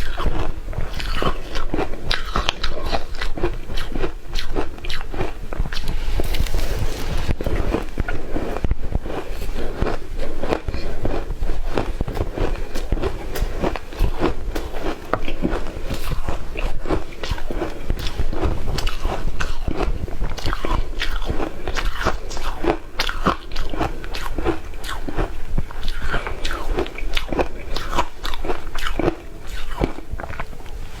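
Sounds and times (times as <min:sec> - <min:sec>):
person chewing shaved ice: 0:00.0 - 0:31.0.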